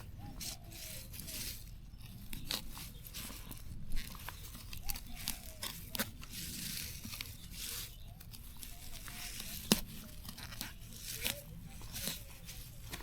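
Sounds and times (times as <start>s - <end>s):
plant stems tearing and rustling: 0.0s - 13.0s
stems snapping: 0.0s - 13.0s.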